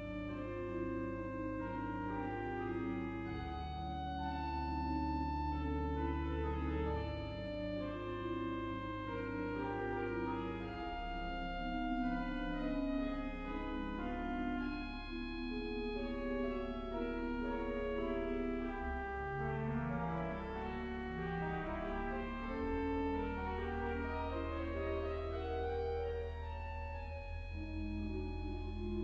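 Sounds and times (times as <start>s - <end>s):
pipe organ playing: 0.0s - 29.0s.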